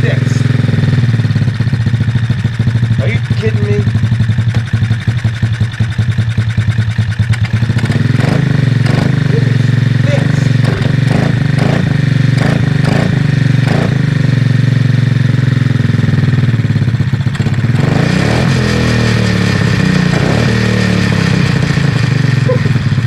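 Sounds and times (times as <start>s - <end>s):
small motorcycle engine running: 0.0s - 23.0s.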